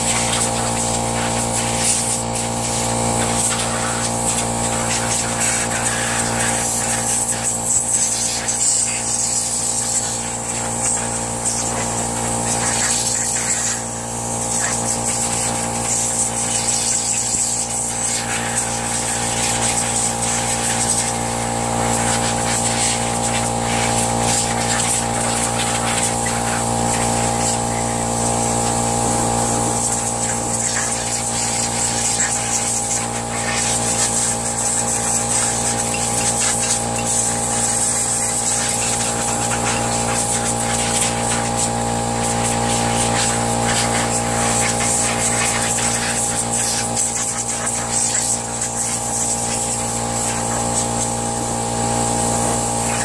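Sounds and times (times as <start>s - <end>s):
compressed air hissing: 0.0s - 51.6s
air compressor running: 0.0s - 53.0s.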